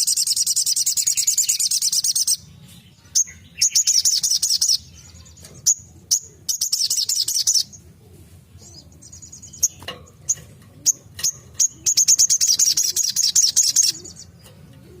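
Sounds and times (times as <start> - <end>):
bird high chirps: 0.0 - 7.9, 8.6 - 14.6.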